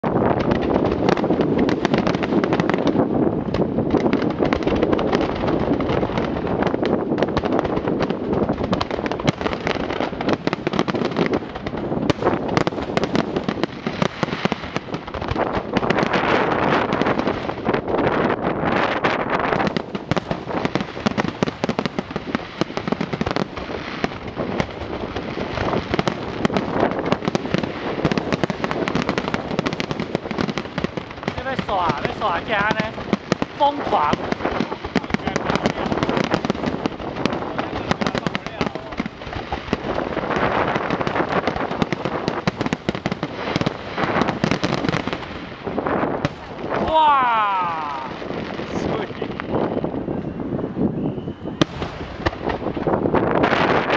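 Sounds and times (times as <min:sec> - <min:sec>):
fireworks crackling and popping: 0:00.0 - 0:53.9
loud fireworks bangs: 0:00.0 - 0:53.9.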